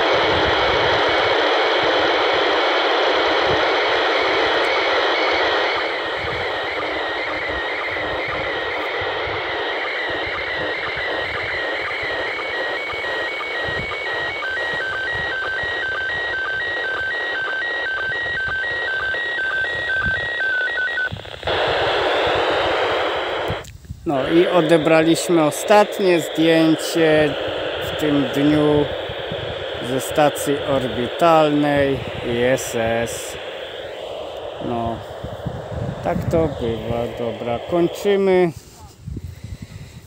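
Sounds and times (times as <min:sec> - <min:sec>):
warbling stepping radio tones: 0:00.0 - 0:38.8
static hiss: 0:00.0 - 0:39.0.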